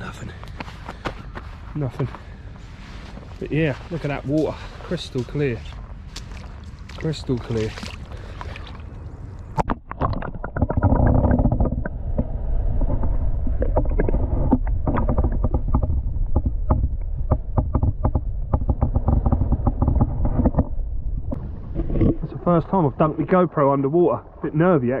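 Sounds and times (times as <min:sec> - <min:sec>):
underwater rumble of moving water: 0:02.2 - 0:25.0.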